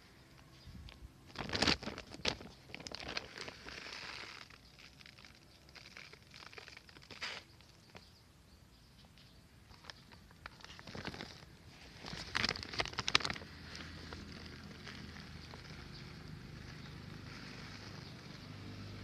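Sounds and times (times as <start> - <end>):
granules shifting under hand: 0.3 - 8.1, 9.7 - 18.5
plastic sack crinkling: 0.9 - 8.1, 9.7 - 19.0.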